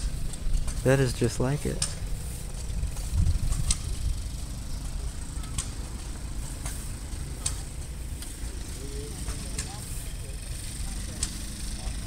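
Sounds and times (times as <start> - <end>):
engines rumbling: 0.0 - 12.0.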